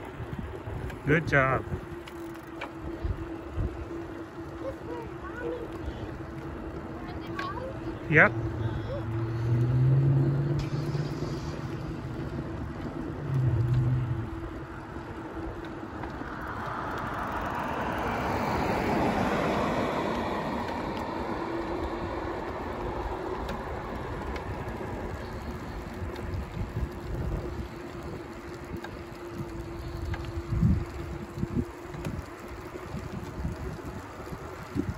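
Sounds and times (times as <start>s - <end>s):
outdoor rumble: 0.0s - 34.9s
vehicle passing: 0.0s - 34.9s.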